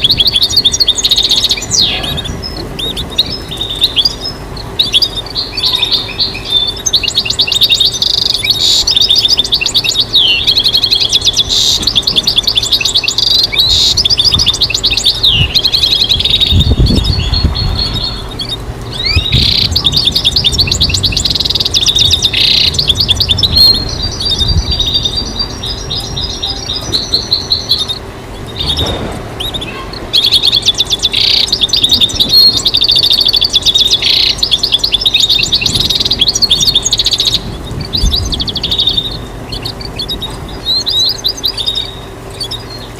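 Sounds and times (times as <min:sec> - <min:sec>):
faint steady hum: 0:00.0 - 0:42.9
finch singing twittering trills: 0:00.0 - 0:42.9.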